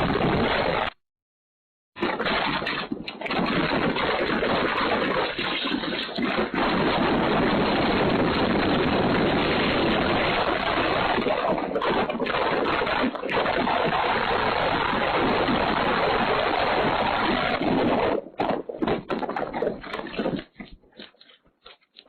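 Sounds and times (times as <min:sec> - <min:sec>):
gusty wind buffeting microphone: 0:00.0 - 0:01.0, 0:02.0 - 0:21.1.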